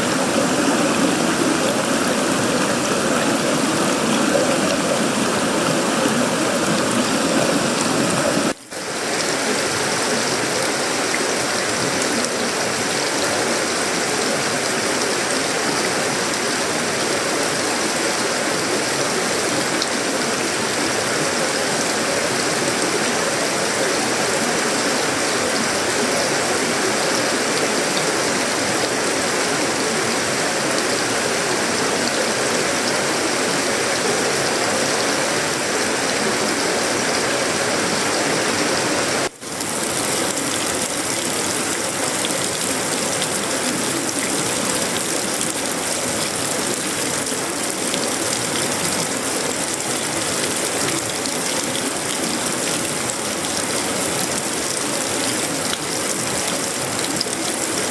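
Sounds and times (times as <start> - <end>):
heavy rain on metal roof: 0.0 - 57.9.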